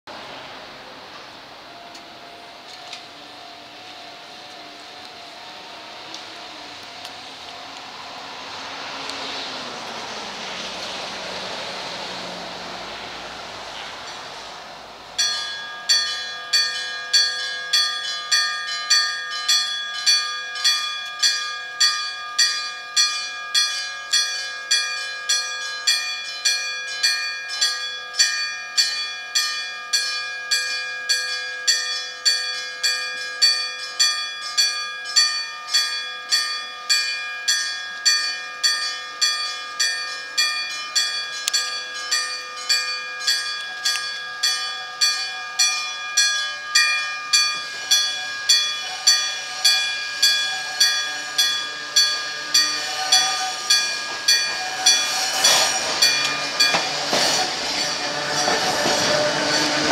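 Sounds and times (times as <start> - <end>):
railroad crossing warning bell: 0.1 - 59.9.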